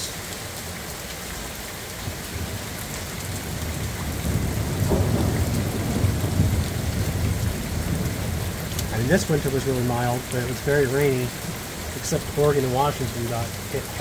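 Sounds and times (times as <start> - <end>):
steady rain: 0.0 - 14.0
thunder rumbling: 2.3 - 14.0.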